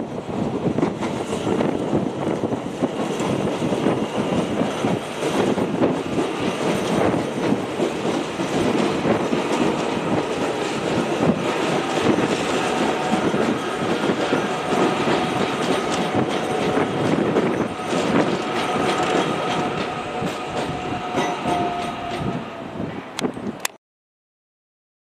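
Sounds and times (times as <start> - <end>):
train wheels rumbling on rails: 0.0 - 23.7
rail clicks: 0.2 - 23.8.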